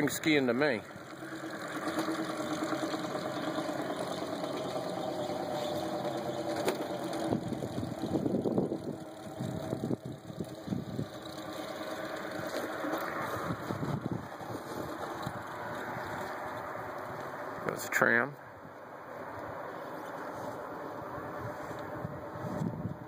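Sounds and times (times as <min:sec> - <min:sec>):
engine running with pitched hum: 0:00.0 - 0:23.0.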